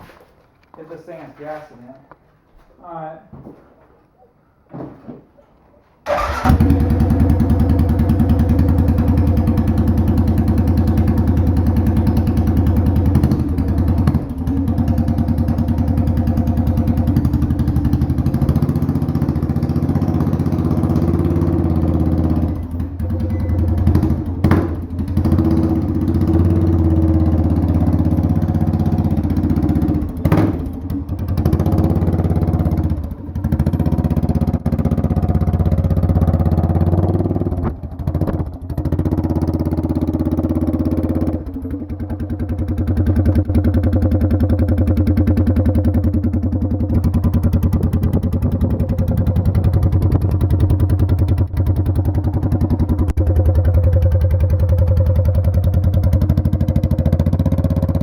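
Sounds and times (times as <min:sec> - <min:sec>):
unmuffled quad engine revving: 0:06.1 - 0:58.0.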